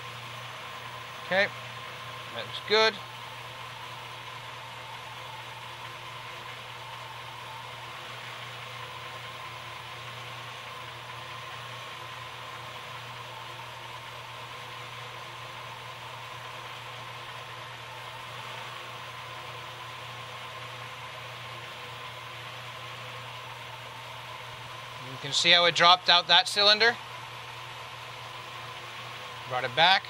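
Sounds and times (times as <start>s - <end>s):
high whine: 0.0s - 20.9s, 23.3s - 30.0s.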